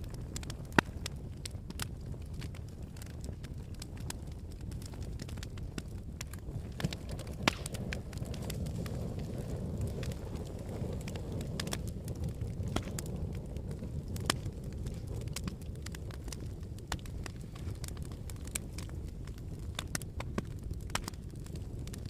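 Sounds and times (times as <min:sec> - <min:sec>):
fire rumbling: 0:00.0 - 0:22.0
wood fire crackling and popping: 0:00.0 - 0:22.0.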